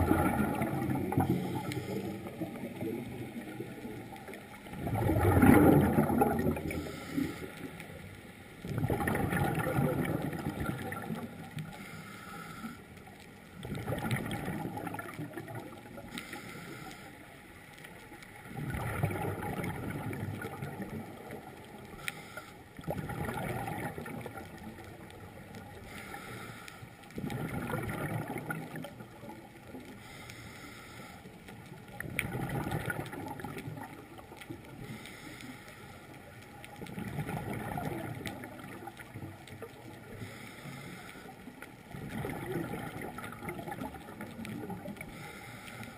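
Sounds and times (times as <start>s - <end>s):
exhaled bubbles underwater: 0.0s - 11.8s, 13.2s - 16.8s, 17.8s - 26.4s, 27.1s - 30.2s, 31.5s - 35.3s, 36.1s - 45.9s.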